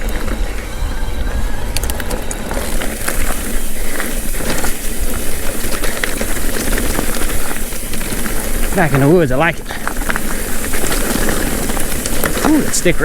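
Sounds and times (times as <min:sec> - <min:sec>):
bike clicking and rattling: 0:00.0 - 0:13.0
bike tyres on dirt trail: 0:00.0 - 0:13.0.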